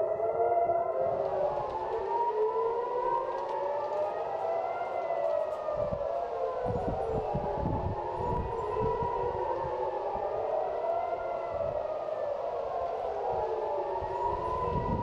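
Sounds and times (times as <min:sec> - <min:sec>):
air-raid sirens wailing: 0:00.0 - 0:15.0.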